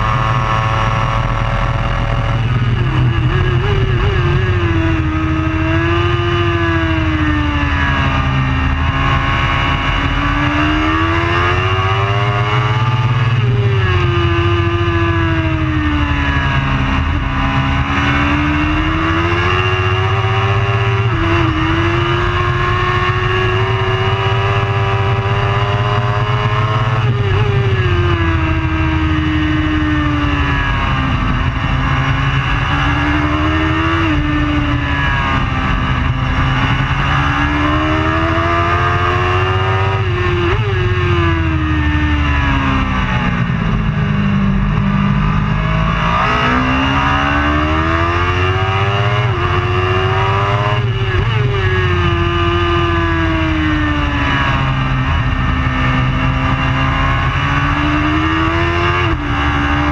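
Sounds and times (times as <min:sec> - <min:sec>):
low rush of wind: 0:00.0 - 0:59.9
motorcycle engine revving: 0:00.0 - 0:59.9.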